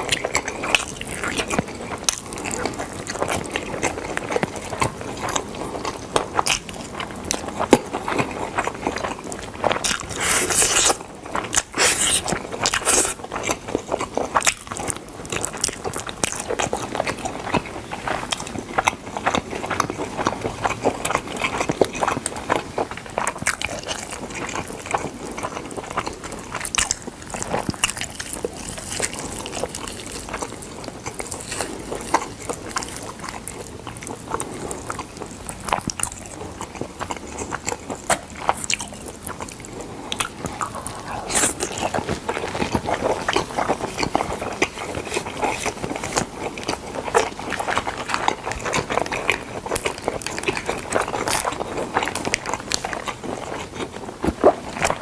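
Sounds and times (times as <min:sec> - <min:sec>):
biting and chewing chicken: 0:00.0 - 0:55.0.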